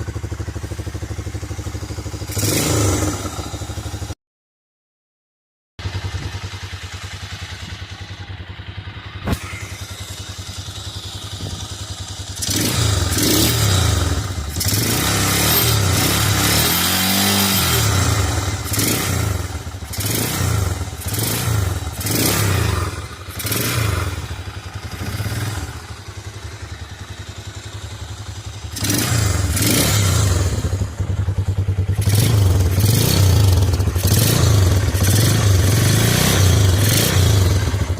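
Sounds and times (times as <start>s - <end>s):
motorcycle engine revving: 0.0s - 4.2s, 5.8s - 37.9s.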